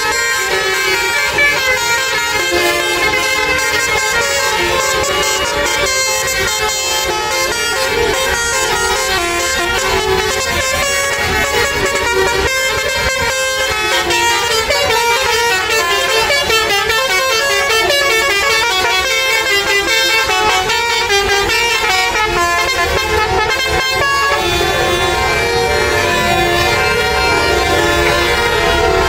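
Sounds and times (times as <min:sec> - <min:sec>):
musical air horn melody: 0:00.0 - 0:29.0.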